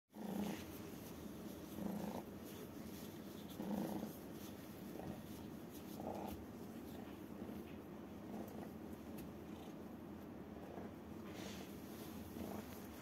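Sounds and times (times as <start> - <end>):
kitten purring: 0.2 - 13.0.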